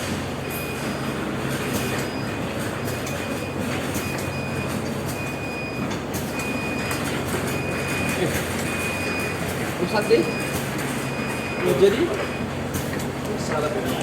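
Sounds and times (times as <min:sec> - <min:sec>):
machine hum and clatter: 0:00.0 - 0:14.0.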